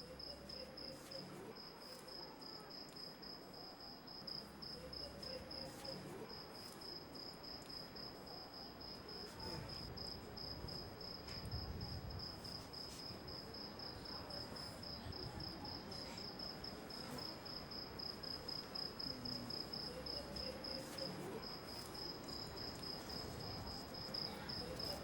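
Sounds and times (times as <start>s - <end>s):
cricket chirping: 0.0s - 25.0s.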